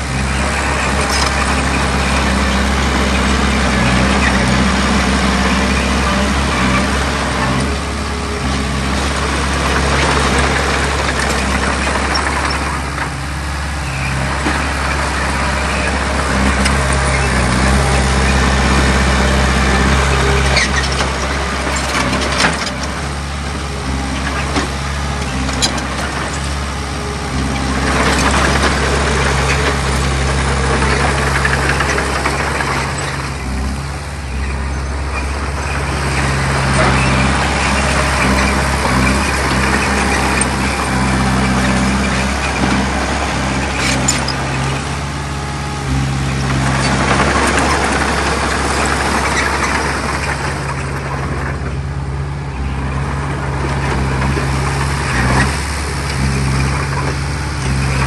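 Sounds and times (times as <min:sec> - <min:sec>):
heavy diesel engine under load: 0:00.0 - 0:58.0.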